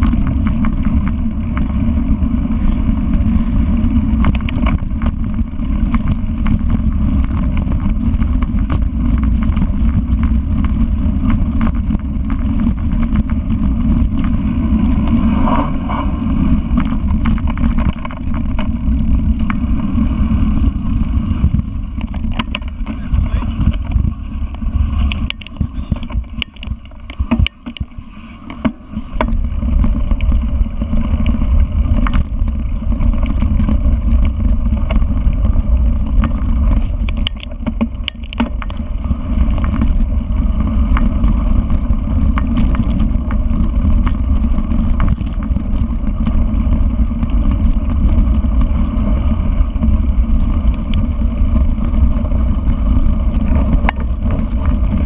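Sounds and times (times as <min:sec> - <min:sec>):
bike knocks and rattles: 0:00.0 - 0:55.0
wind rushing over microphone: 0:00.0 - 0:55.0.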